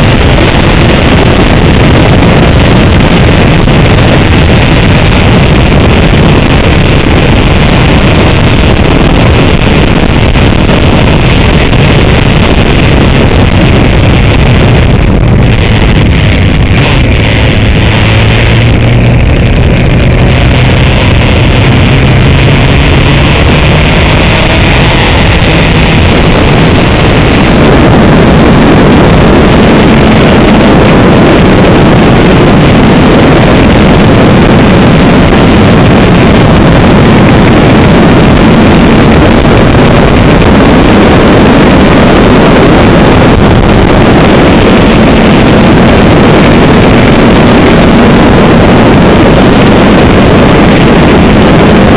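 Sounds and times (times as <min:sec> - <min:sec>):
motorcycle engine hum: 0:00.0 - 0:51.9
wind buffeting microphone: 0:00.0 - 0:51.9.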